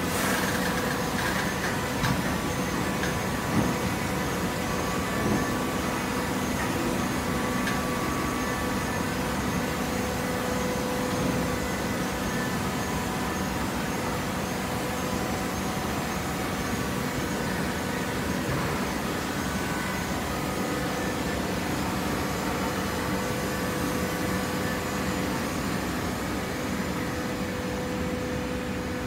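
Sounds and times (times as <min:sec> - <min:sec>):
baler mechanical hum: 0:00.0 - 0:29.0.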